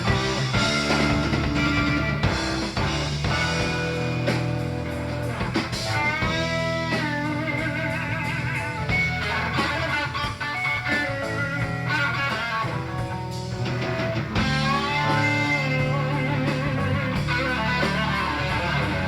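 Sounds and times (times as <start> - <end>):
electric guitar lead line: 0.0 - 19.0
live rock band playing: 0.0 - 19.0.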